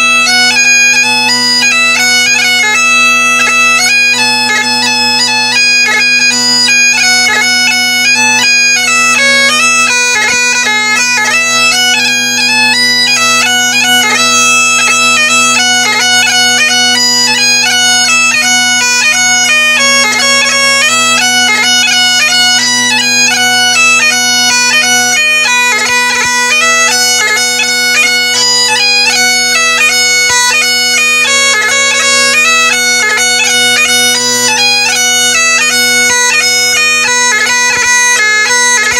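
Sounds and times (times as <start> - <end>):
bagpipe playing lively tune: 0.0 - 38.9.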